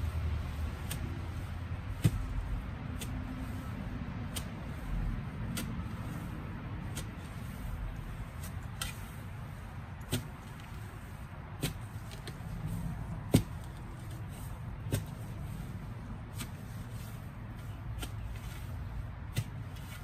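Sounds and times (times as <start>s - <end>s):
hand tool striking soil: 0.0s - 20.0s
steady low rumble: 0.0s - 20.0s.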